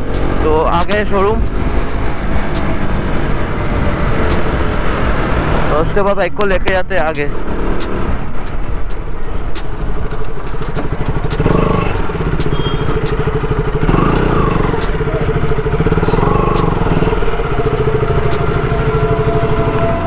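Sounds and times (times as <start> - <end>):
motorcycle engine running: 0.0 - 5.7, 7.2 - 20.0.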